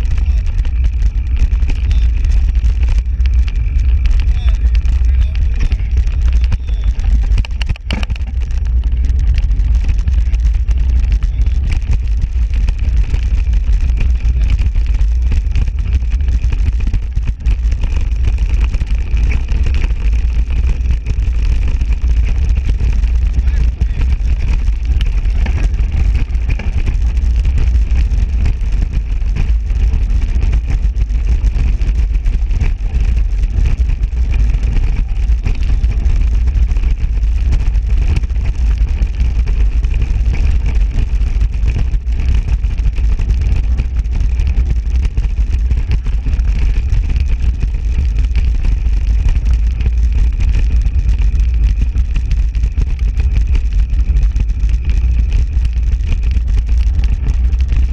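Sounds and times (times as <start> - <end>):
bike tyres rumbling on dirt: 0.0 - 57.9
wind buffeting microphone: 0.0 - 57.9.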